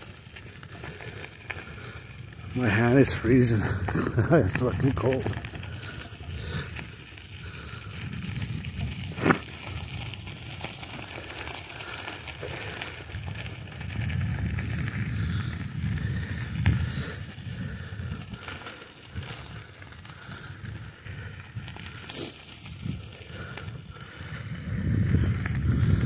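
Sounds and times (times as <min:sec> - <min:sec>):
bicycle tyres rolling on road: 0:00.0 - 0:26.0
wind rumbling on microphone: 0:00.0 - 0:26.0.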